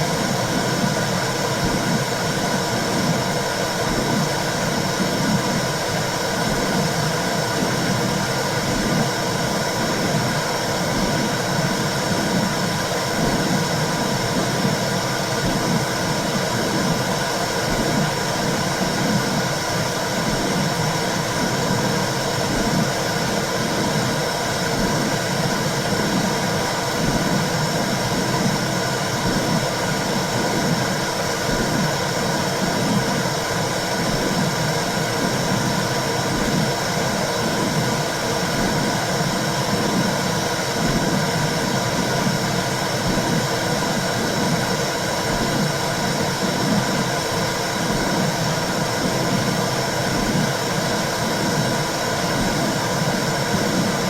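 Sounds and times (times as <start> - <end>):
low rhythmic pulsing: 0.0 - 54.0.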